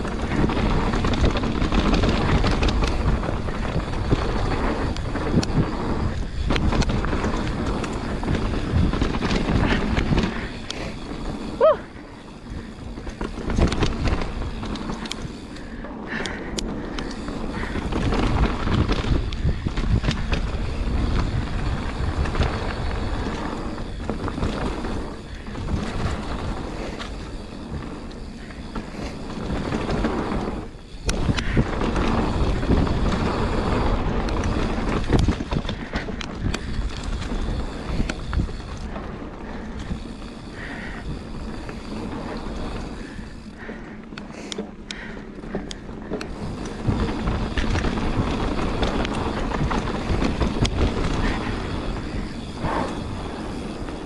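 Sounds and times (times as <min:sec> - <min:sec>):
bike knocking and rattling: 0:00.0 - 0:54.0
bike tyres rushing on dirt: 0:00.0 - 0:54.0.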